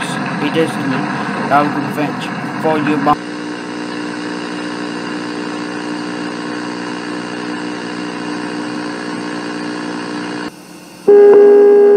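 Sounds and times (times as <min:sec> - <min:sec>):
droning hum: 0:00.0 - 0:11.9.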